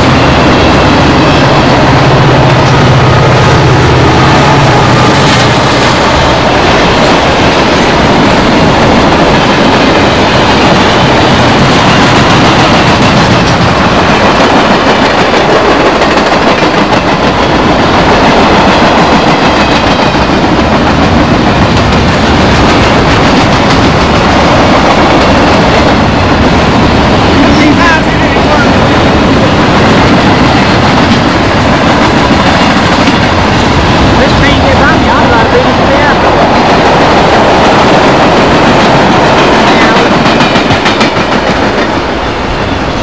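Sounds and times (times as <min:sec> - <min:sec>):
train cars rolling on rails: 0:00.0 - 0:43.0.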